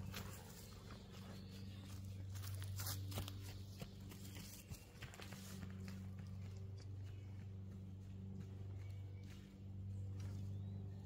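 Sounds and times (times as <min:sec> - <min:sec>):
footsteps on leaf litter: 0:00.0 - 0:11.0
steady low hum: 0:00.0 - 0:11.0.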